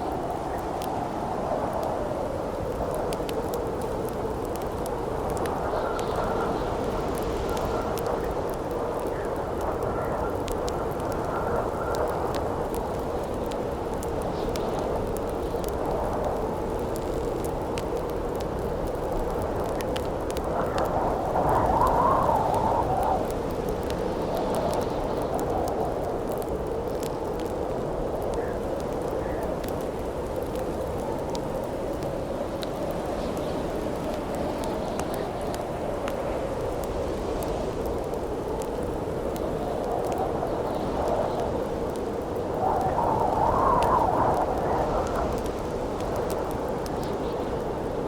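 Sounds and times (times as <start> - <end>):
campfire crackling and popping: 0.0 - 48.0
howling wind: 0.0 - 48.0.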